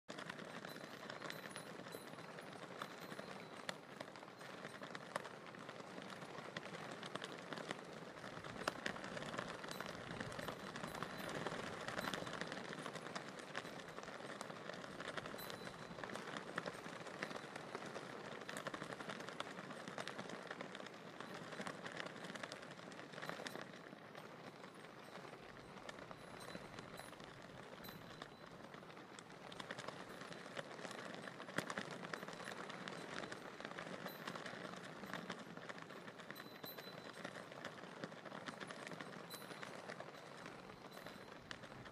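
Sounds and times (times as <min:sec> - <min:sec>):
flags flapping in the wind: 0:00.0 - 0:41.9.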